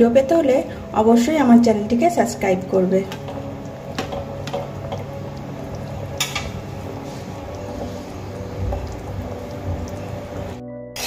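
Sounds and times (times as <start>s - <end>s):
broth boiling and bubbling: 0.0s - 10.6s.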